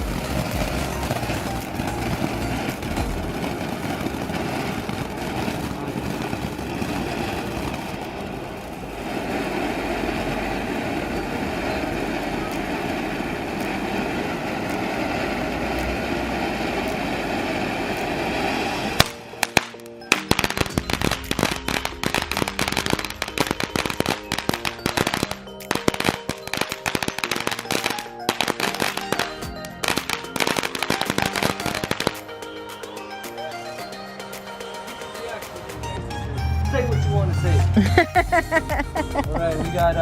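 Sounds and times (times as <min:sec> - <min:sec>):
firework crackling pops: 0:00.0 - 0:35.8
firework fountain hissing: 0:00.0 - 0:36.0, 0:37.8 - 0:40.0
music: 0:00.0 - 0:40.0.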